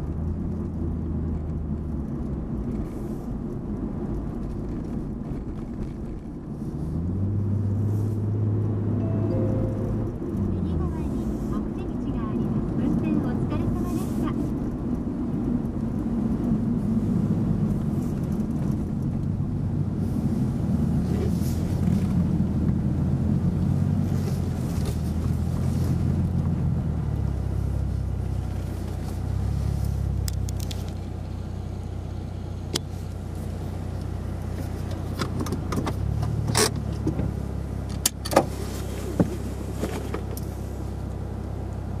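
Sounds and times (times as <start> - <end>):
car engine and road noise: 0.0 - 42.0.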